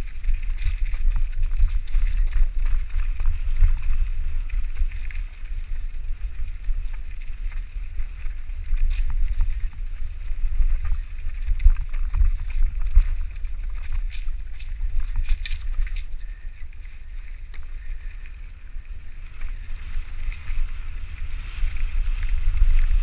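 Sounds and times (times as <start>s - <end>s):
bike clicks and rattles: 0.0s - 23.0s
wind rumbling on microphone: 0.0s - 23.0s.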